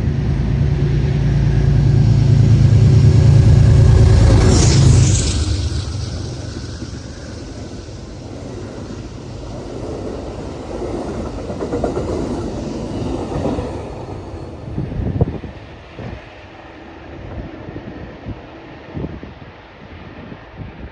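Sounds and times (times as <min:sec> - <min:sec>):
train wheels on rails: 0:00.0 - 0:20.9.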